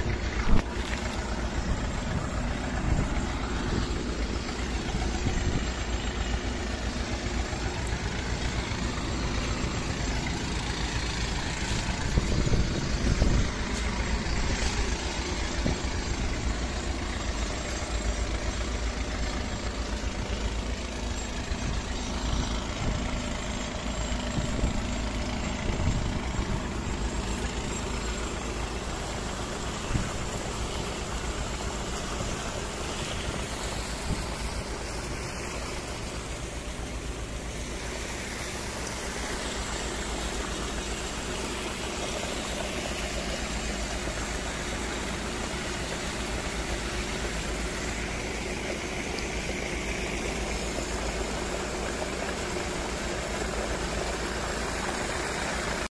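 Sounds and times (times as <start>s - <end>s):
tractor diesel engine running: 0.0s - 55.9s
water pouring from hose: 0.0s - 55.9s.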